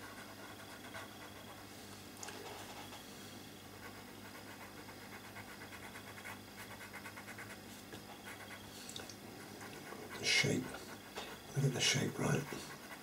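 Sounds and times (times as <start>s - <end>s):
pencil scratching on paper: 0.0s - 1.7s, 2.3s - 13.0s.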